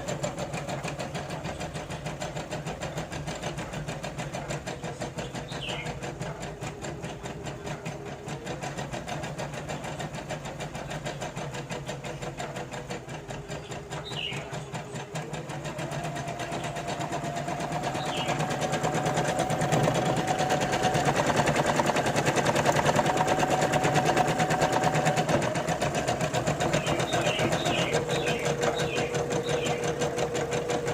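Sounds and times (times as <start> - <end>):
embroidery machine needle stitching: 0.0 - 30.9
machine motor hum: 0.0 - 30.9.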